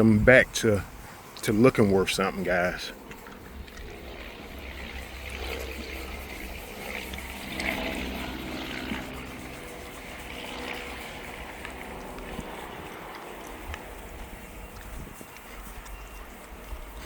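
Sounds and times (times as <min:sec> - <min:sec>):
steady low rumble: 0:00.0 - 0:17.0
hand polishing rubbing swishes: 0:01.0 - 0:17.0.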